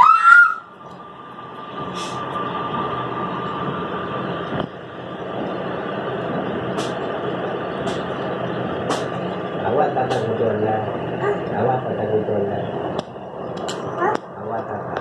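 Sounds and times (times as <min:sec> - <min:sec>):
engine running steadily: 0:00.0 - 0:15.0
thin high whine: 0:00.0 - 0:15.0.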